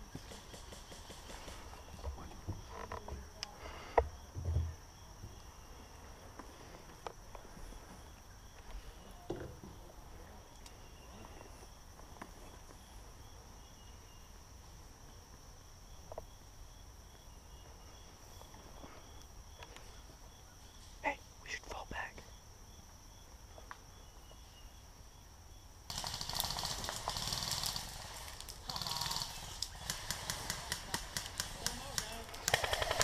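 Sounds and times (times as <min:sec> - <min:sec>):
faint pulsing insect chirp: 0:00.0 - 0:33.0
insects trilling: 0:00.0 - 0:33.0.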